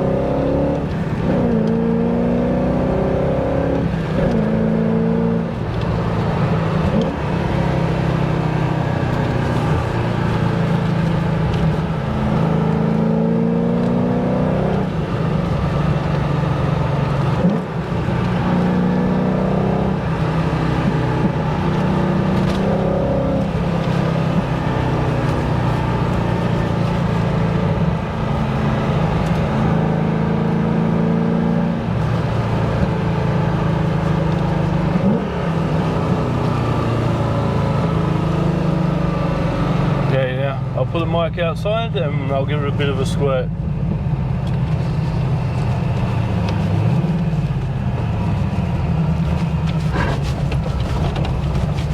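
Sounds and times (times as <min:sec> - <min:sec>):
car engine revving inside cabin: 0:00.0 - 0:51.9.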